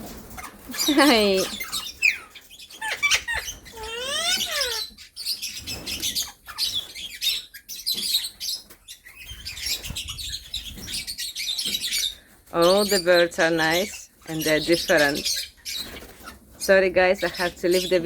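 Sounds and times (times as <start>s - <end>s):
parrots chirping and chattering: 0.0s - 18.0s.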